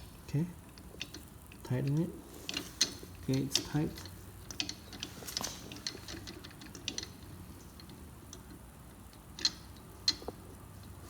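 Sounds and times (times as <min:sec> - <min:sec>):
small metallic clicks and ticks: 0:00.6 - 0:11.0.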